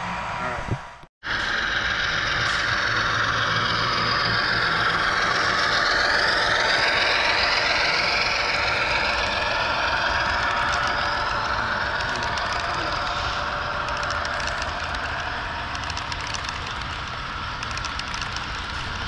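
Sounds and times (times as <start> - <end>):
diesel engine sound effect: 0.0 - 19.0
model train wheels rattling: 1.5 - 19.0.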